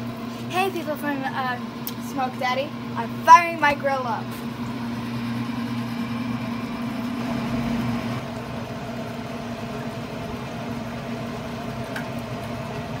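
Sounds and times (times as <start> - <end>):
grill fan humming: 0.0 - 13.0.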